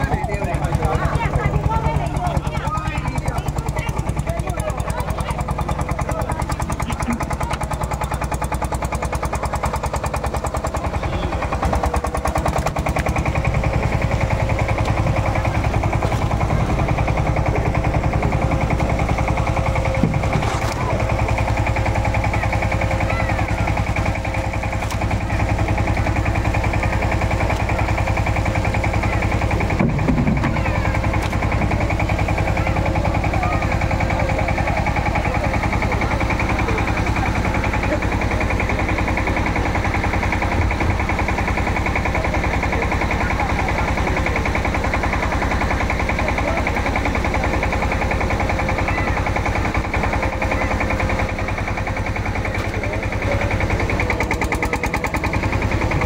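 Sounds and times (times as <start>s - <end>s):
boat engine idling: 0.0s - 56.0s.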